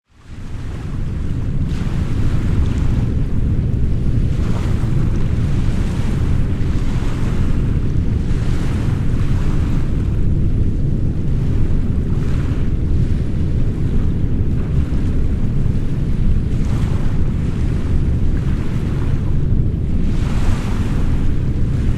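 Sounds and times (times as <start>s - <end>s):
ocean surf: 0.1s - 21.9s
deep brown noise: 0.2s - 21.9s.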